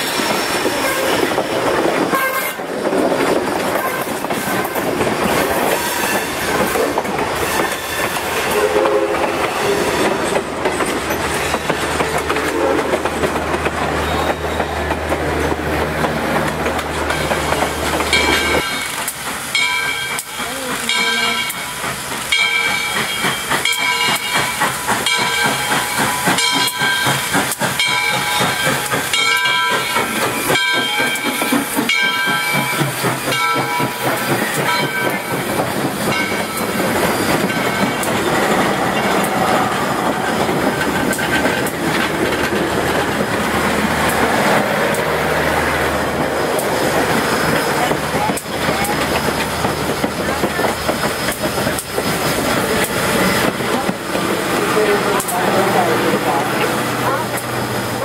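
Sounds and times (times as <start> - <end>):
steam locomotive hiss: 0.0 - 58.0
train cars clickety-clack: 0.0 - 58.0.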